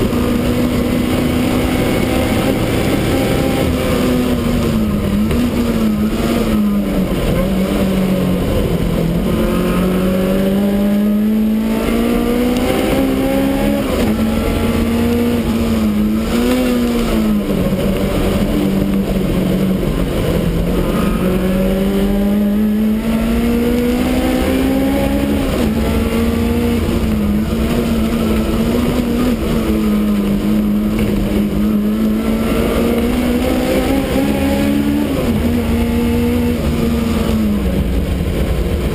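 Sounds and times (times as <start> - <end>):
race car engine revving: 0.0 - 38.9
road and wind noise: 0.0 - 38.9.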